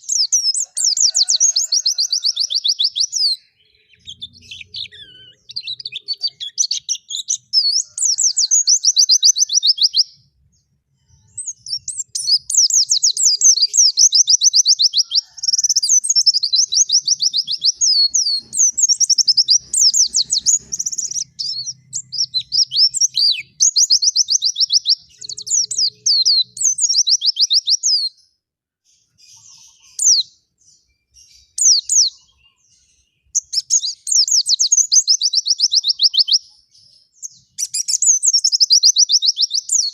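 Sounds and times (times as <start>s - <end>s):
songbird trilling: 0.0s - 10.2s, 11.0s - 28.2s, 29.2s - 30.4s, 31.2s - 39.9s.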